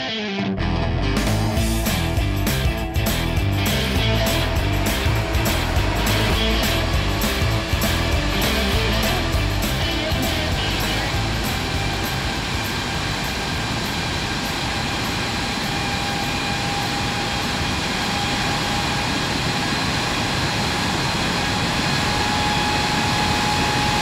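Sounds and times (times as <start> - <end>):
engine whining tones: 1.2 - 24.0
jet engine roar: 1.5 - 24.0.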